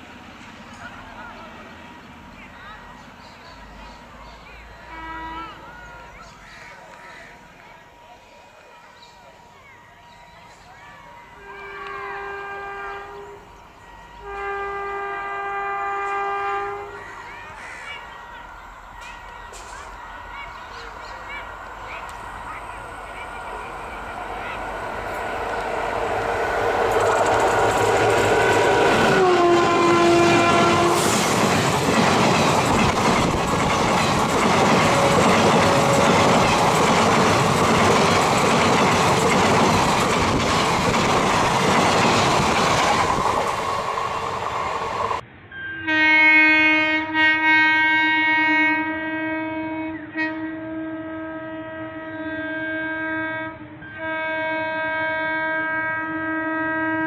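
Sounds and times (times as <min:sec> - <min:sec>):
train coaches clattering past: 0:00.0 - 0:46.1
locomotive horn blaring: 0:04.6 - 0:06.2, 0:10.5 - 0:57.0.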